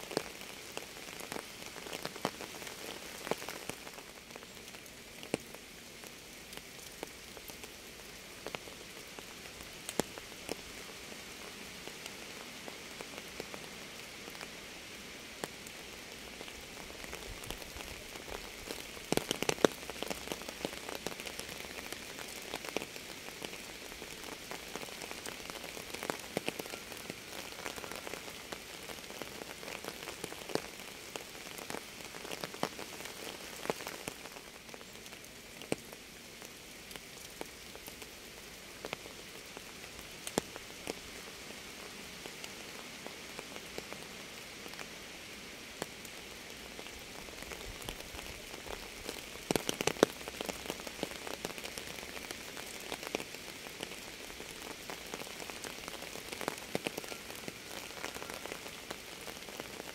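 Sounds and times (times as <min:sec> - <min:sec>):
raindrops ticking close by: 0:00.0 - 0:59.9
steady rain hiss: 0:00.0 - 0:59.9.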